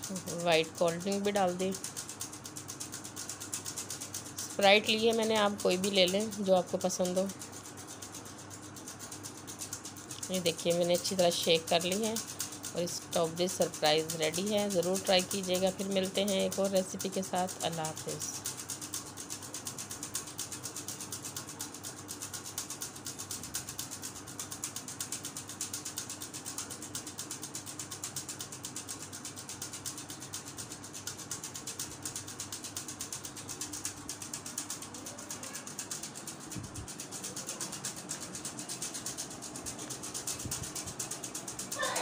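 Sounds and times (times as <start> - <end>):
faint steady hum: 0.0 - 42.0
fast rattling tick: 0.0 - 42.0.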